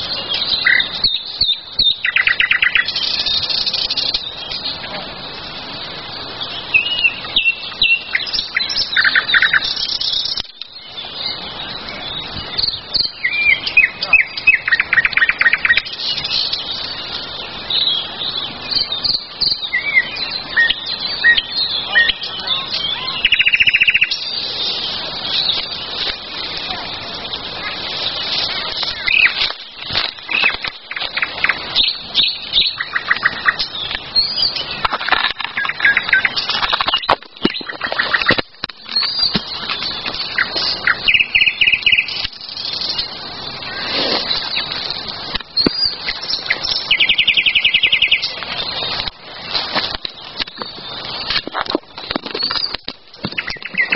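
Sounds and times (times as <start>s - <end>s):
wild birds singing: 0.0s - 53.9s.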